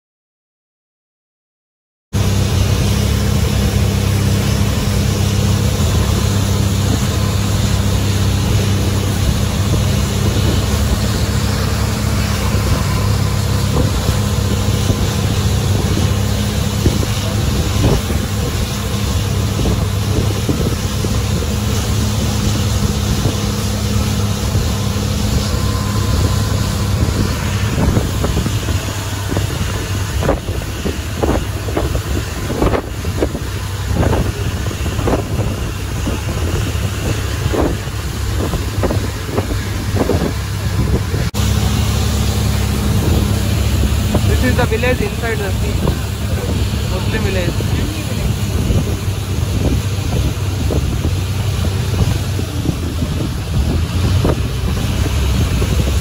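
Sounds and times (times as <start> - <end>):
boat engine droning: 2.2 - 56.0
water rushing along hull: 2.2 - 56.0
wind buffeting microphone: 2.2 - 56.0.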